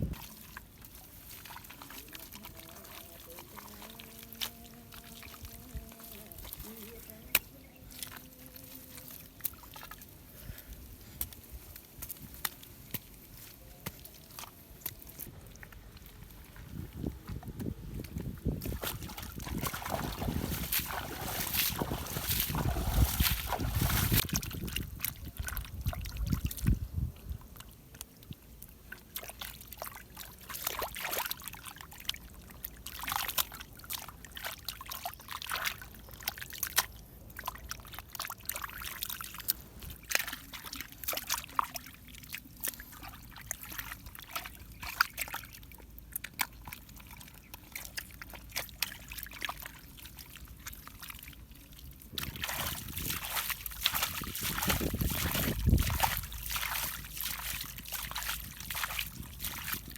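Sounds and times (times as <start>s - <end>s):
river water sloshing and trickling: 0.0s - 59.9s
small splashes: 0.1s - 26.7s, 27.3s - 59.9s.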